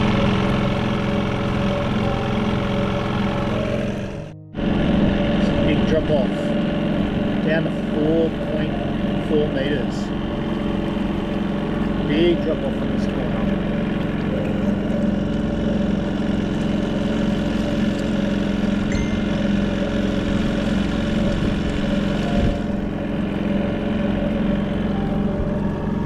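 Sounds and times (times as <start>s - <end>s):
outboard motor droning: 0.0s - 26.0s.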